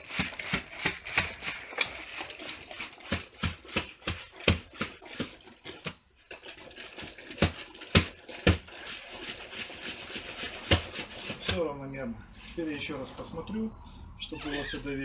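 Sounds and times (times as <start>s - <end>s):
plastic barrel knocking and clunking: 0.0s - 12.5s.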